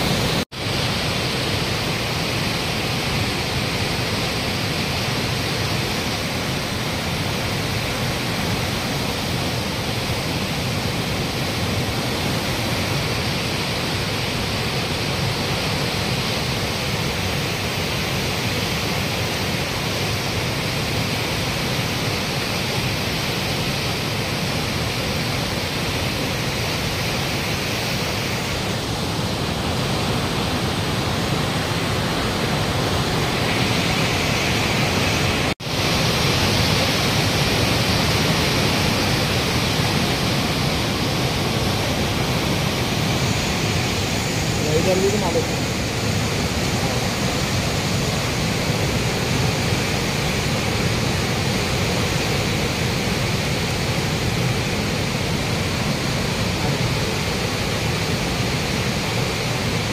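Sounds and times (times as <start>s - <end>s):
river floodwater rushing: 0.0s - 59.9s.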